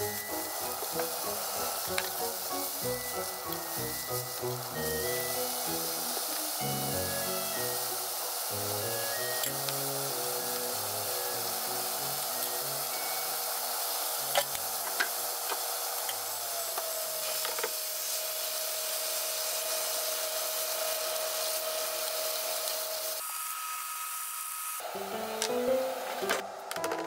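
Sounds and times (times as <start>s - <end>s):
food sizzling in a frying pan: 0.0s - 26.3s.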